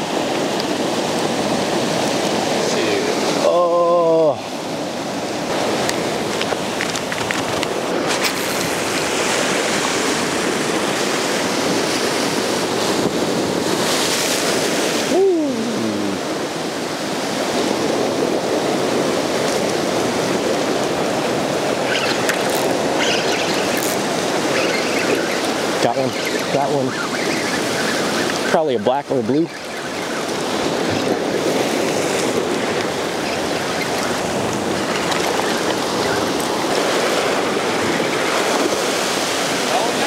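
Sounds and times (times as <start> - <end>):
surf breaking on rocky shore: 0.0 - 40.0.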